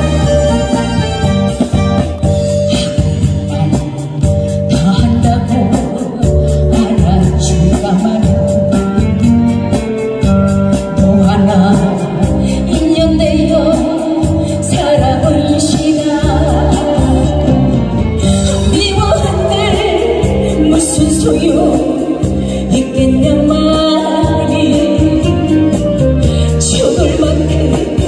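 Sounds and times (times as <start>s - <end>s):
instrumental accompaniment: 0.0s - 28.0s
woman singing into microphone: 2.9s - 28.0s.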